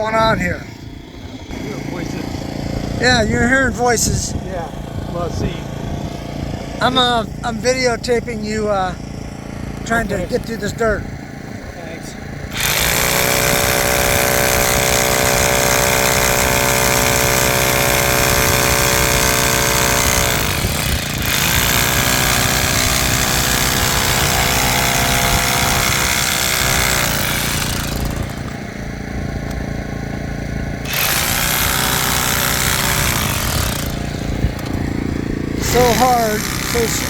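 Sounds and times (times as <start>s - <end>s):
low running engine sound: 0.0s - 12.6s, 16.7s - 37.0s
jackhammer hammering soil: 0.0s - 37.0s.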